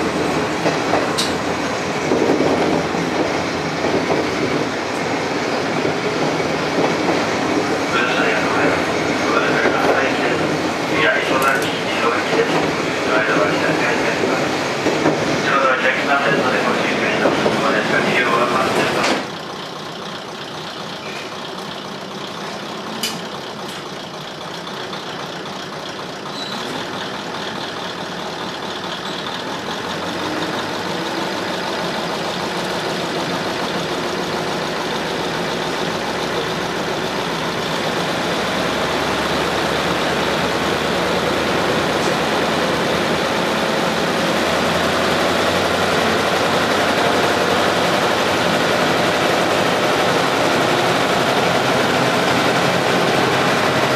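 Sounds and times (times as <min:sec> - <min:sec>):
diesel railcar engine rumble: 0:00.0 - 0:53.9.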